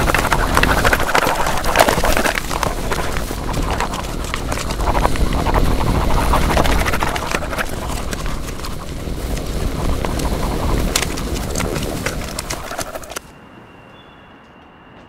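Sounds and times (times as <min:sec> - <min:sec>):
steady low rumble: 0:00.0 - 0:13.2
footsteps on rough ground: 0:00.0 - 0:13.3.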